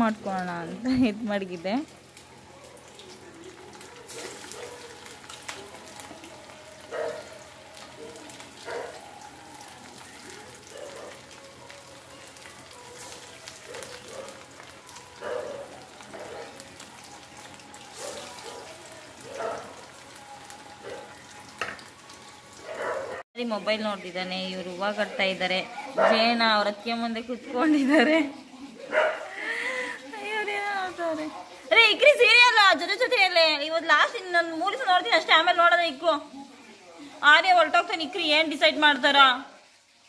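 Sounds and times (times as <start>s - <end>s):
chicken deep-frying in hot oil: 0.0s - 40.0s.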